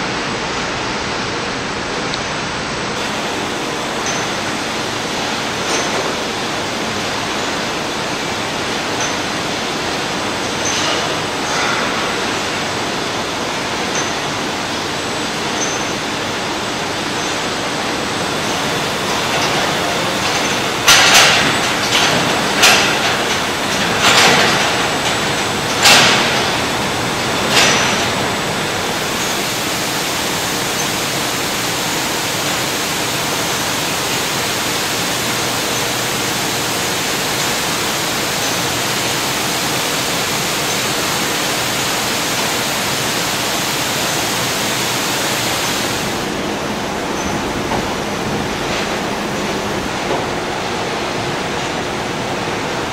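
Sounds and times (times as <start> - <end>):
conveyor machinery rushing: 0.0 - 52.9.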